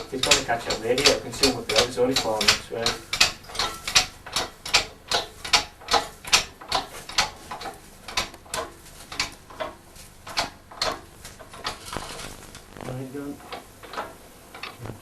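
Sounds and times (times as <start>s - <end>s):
ratchet clicking: 0.0s - 12.4s, 13.4s - 14.8s.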